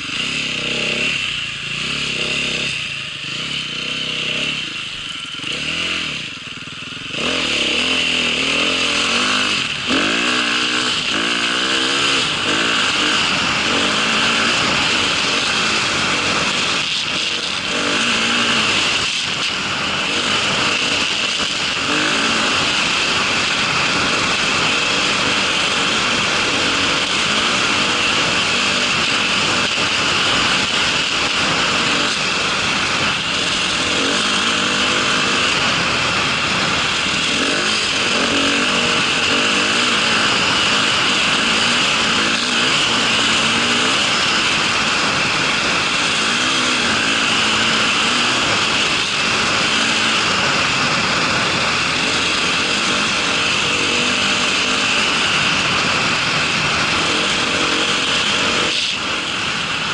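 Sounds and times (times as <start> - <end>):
small engine revving: 0.0 - 59.9.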